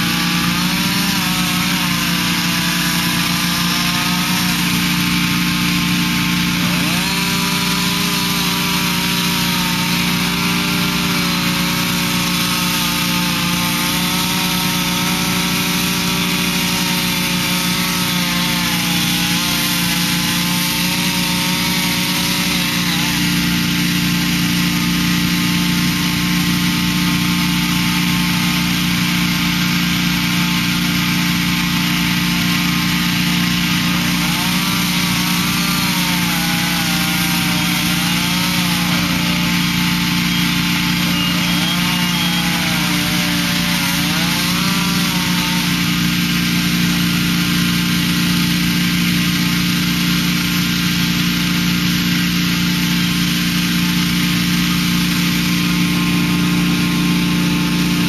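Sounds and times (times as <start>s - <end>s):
power saw cutting roof: 0.0s - 58.0s.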